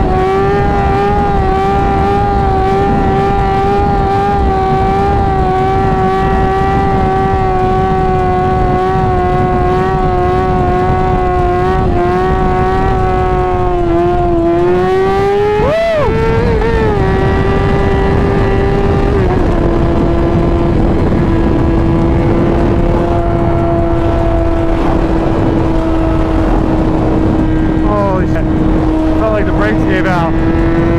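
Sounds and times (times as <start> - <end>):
motorcycle engine running at high revs: 0.0 - 30.9.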